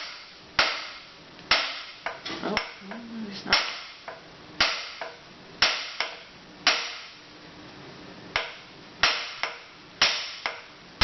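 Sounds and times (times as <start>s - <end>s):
hammer striking metal: 0.0s - 2.8s, 3.5s - 7.2s, 8.3s - 10.7s.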